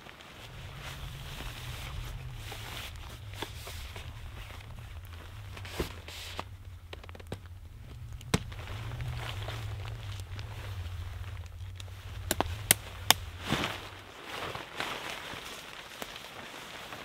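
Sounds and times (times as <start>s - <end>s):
steady low rumble: 0.0s - 15.5s
tent fabric rustling: 0.0s - 17.0s.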